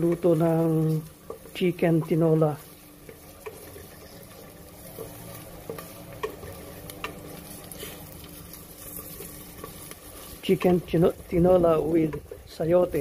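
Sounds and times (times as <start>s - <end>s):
garlic sizzling in oil: 0.0s - 13.0s
light stirring taps: 0.0s - 13.0s.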